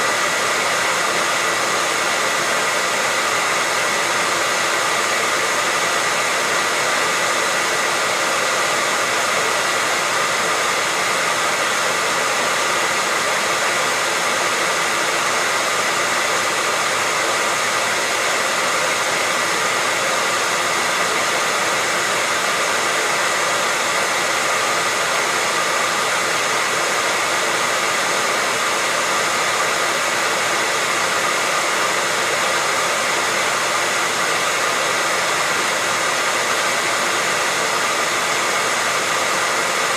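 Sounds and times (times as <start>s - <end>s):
hair dryer whirring: 0.0s - 39.9s.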